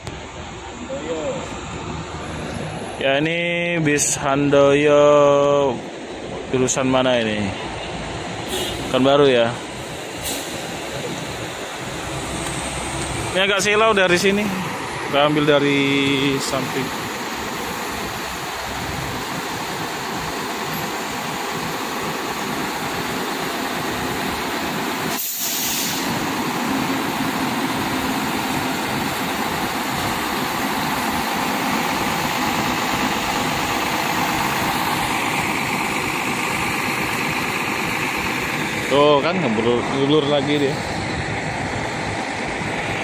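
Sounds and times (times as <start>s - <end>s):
coach diesel engine running: 0.0s - 43.0s.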